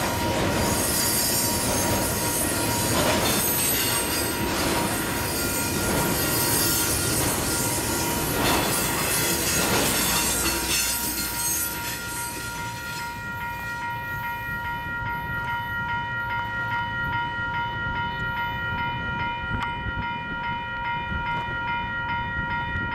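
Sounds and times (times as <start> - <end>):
crossing warning bell ringing: 0.0 - 22.9
train rumbling and clattering: 0.0 - 22.9.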